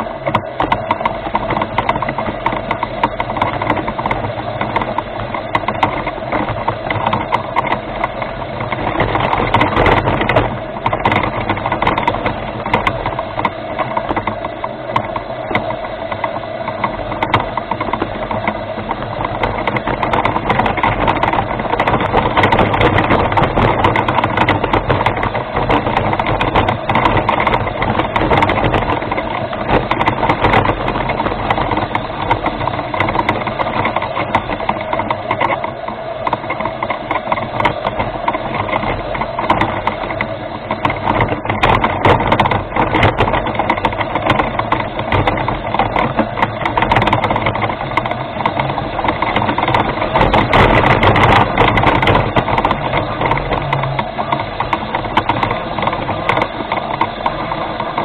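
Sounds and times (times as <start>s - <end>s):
remote-control rover driving: 0.0s - 58.0s
wheels clicking on rough ground: 0.0s - 58.0s.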